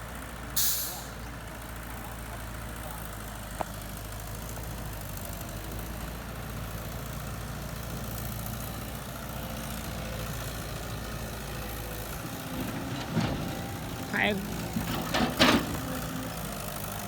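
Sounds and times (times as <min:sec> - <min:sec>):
diesel engine idling: 0:00.2 - 0:17.0.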